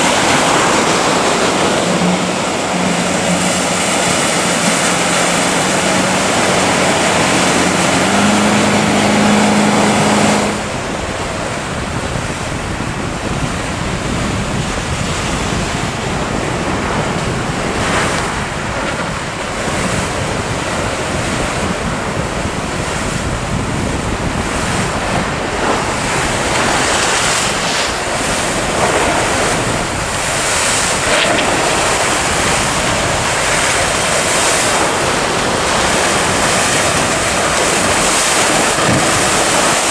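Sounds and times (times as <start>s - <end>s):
outboard motor running: 0.0s - 39.9s
sea surf breaking: 0.0s - 39.9s
wind buffeting microphone: 0.0s - 39.9s.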